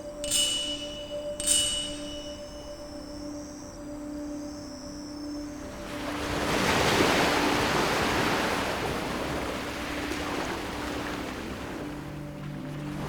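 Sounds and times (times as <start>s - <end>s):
ocean waves washing ashore: 0.0s - 13.0s
soft background music: 0.0s - 13.0s.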